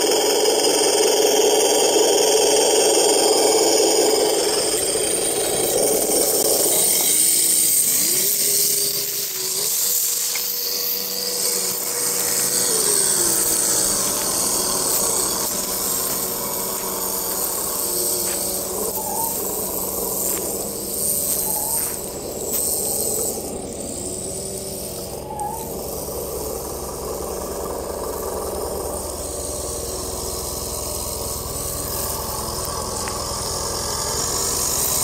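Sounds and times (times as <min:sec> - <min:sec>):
steady high hiss: 0:00.0 - 0:35.0
toy truck electric motor whining: 0:00.0 - 0:35.0.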